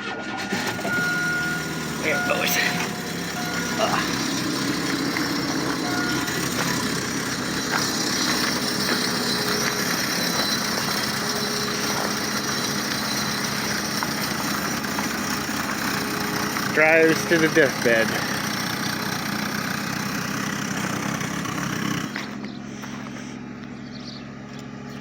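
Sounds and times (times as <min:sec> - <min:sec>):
car engine running with knock: 0:00.0 - 0:25.0.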